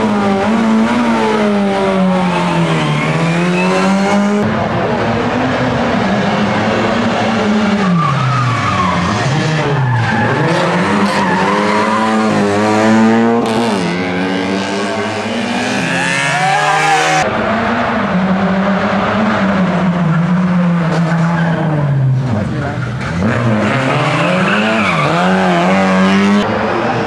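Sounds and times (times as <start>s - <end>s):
rally car engines revving: 0.0s - 27.0s.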